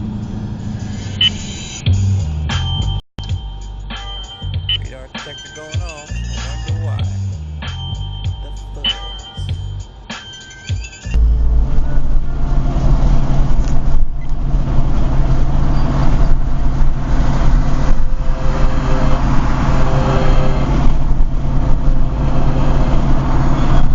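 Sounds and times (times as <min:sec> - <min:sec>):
car engine rumbling: 0:00.0 - 0:23.9.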